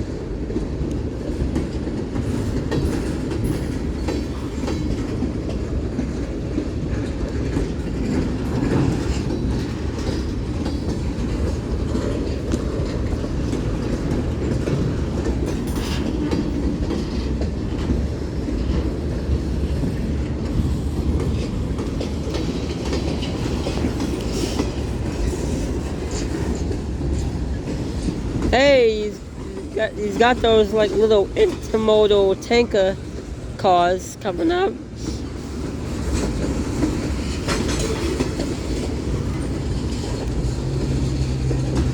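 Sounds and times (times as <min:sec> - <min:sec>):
freight train rumbling past: 0:00.0 - 0:41.9
wheels clicking over rail joints: 0:00.0 - 0:41.9.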